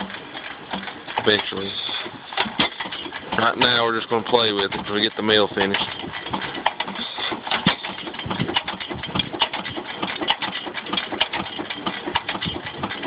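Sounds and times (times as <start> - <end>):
stationary engine knocking and popping: 0.0 - 13.0.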